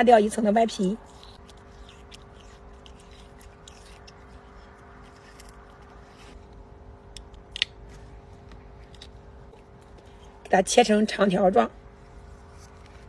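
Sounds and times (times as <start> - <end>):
aloe leaf skin being peeled: 0.3 - 10.6, 12.0 - 13.0.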